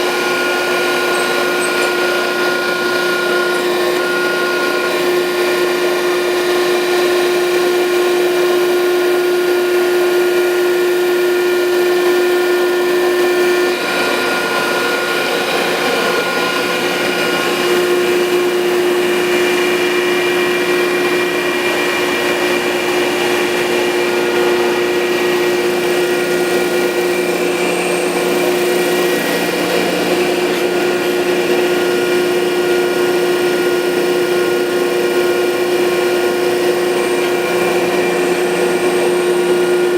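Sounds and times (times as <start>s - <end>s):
grinder machine hum: 0.0s - 39.9s
grinder whine: 0.0s - 39.9s.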